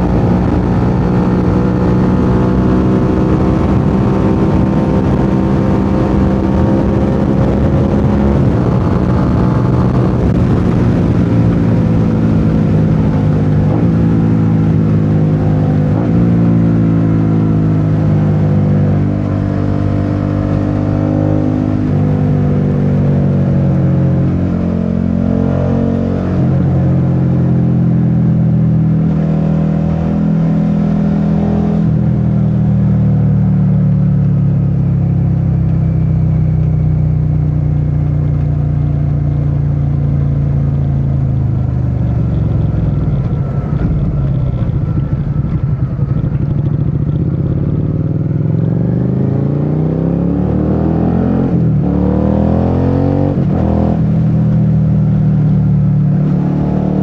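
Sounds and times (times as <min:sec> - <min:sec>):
motorcycle engine running: 0:00.0 - 0:25.0, 0:26.5 - 0:49.6.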